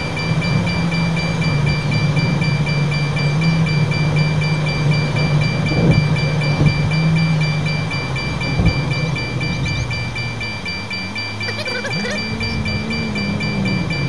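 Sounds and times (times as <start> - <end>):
car engine drone and road noise: 0.0 - 14.0.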